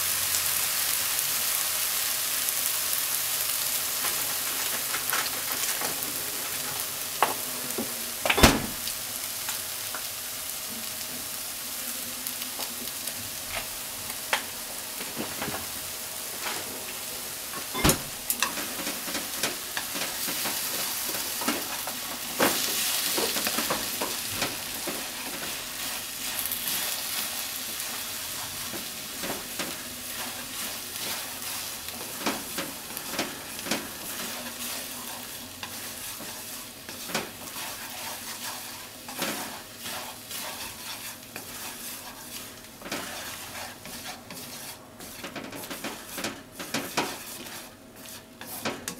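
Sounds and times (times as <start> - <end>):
food sizzling in a frying pan: 0.0 - 48.9.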